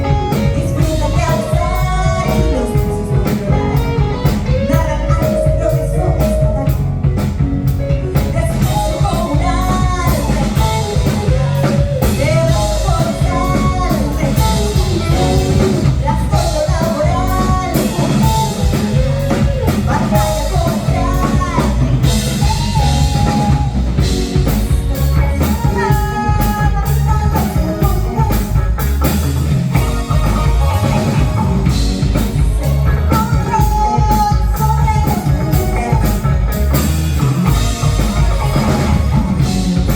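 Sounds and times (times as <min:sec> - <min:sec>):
bending melodic lead line: 0:00.0 - 0:39.9
live rock funk band: 0:00.0 - 0:39.9.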